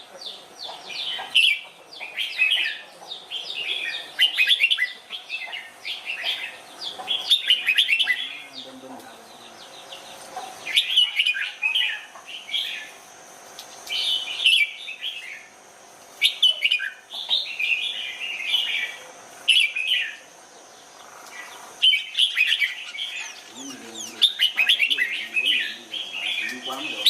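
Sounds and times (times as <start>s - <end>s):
bulbul chirping song: 0.2s - 13.0s, 16.2s - 27.0s.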